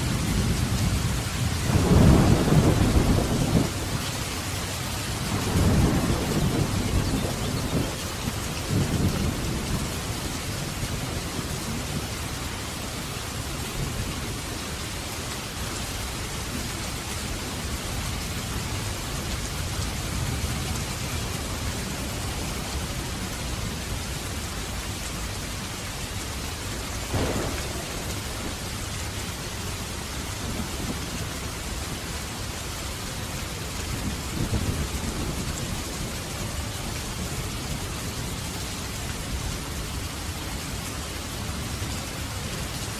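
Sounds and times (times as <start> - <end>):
rain hissing: 0.0 - 42.9.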